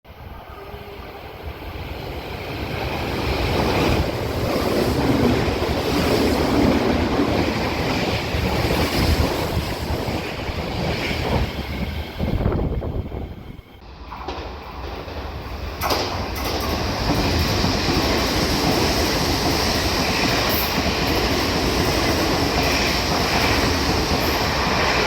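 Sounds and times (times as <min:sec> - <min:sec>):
electric train passing: 0:00.1 - 0:25.0.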